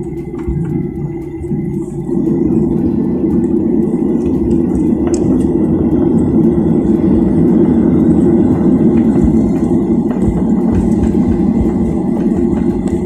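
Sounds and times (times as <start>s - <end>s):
faint steady whine: 0.0s - 13.0s
loud low engine rumble: 0.0s - 13.0s.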